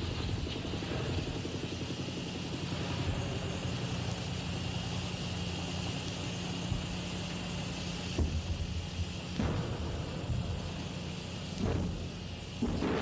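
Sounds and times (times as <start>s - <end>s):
constant hum: 0.0s - 13.0s
low engine drone: 0.0s - 13.0s.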